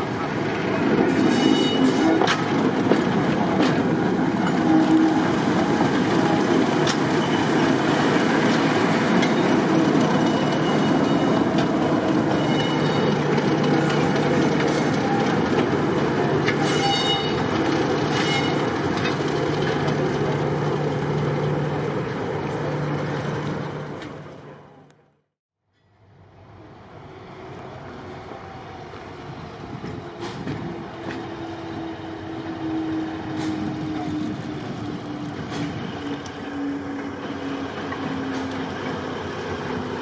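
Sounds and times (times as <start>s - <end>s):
train wheels rumbling on rails: 0.0s - 24.9s, 26.0s - 40.0s.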